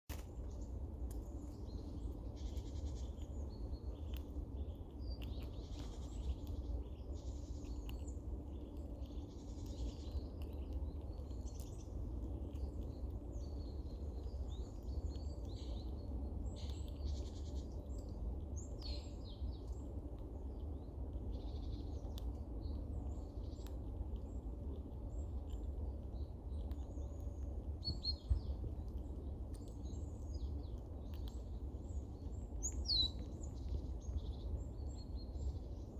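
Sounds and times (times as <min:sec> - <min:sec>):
steady low rumble: 0:00.1 - 0:35.9
squirrel clucking and squeaking: 0:00.5 - 0:35.9.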